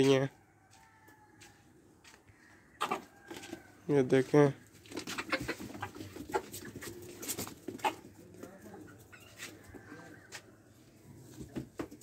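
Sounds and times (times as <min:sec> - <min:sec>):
chickens clucking softly: 0:00.0 - 0:12.0.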